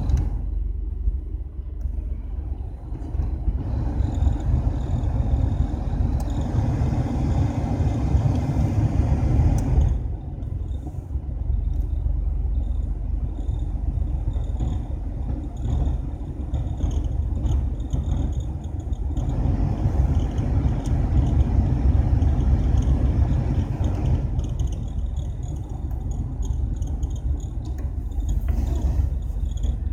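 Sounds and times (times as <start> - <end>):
fan chirping: 0.0 - 29.9
low car rumble: 0.0 - 29.9.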